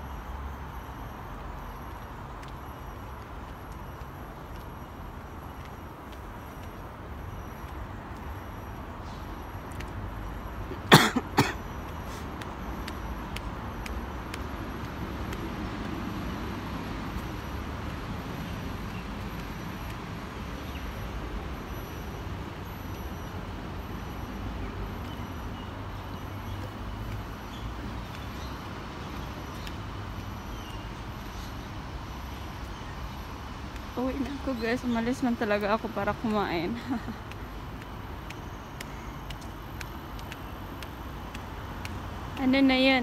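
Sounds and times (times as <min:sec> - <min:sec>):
distant traffic rumble: 0:00.0 - 0:43.0.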